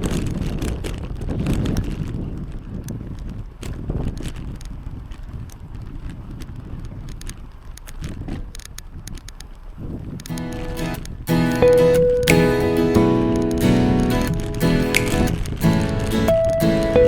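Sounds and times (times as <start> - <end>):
bicycle clicks and rattles: 0.0 - 11.3, 13.4 - 16.6
wind buffeting microphone: 0.0 - 11.3, 13.8 - 17.0.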